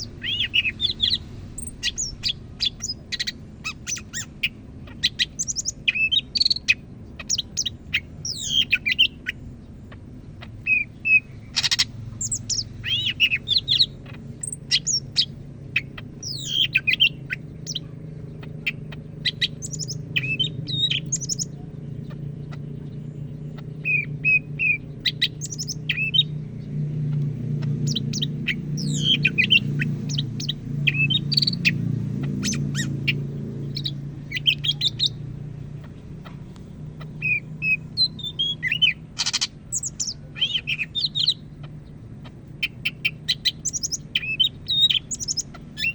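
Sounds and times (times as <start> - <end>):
bird singing chirps and whistles: 0.0 - 9.8, 10.4 - 26.6, 27.6 - 35.2, 37.0 - 45.9
steady low hum: 0.0 - 45.9.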